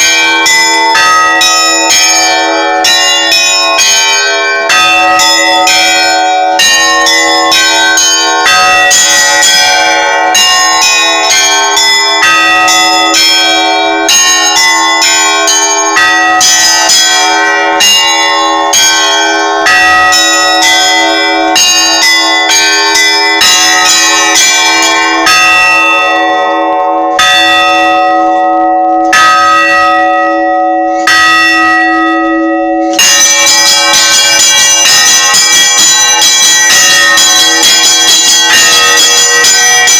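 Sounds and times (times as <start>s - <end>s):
large bell humming: 0.0s - 39.9s
small church bells ringing: 0.0s - 39.9s.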